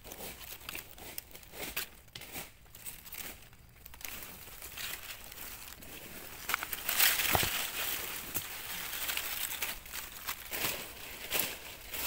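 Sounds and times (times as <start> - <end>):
dry leaves crackling and rustling: 0.0 - 12.0.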